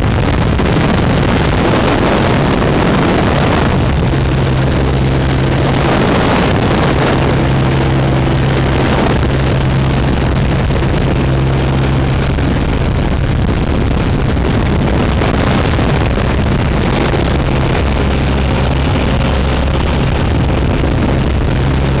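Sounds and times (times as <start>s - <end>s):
airplane engine drone from cabin: 0.0s - 22.0s.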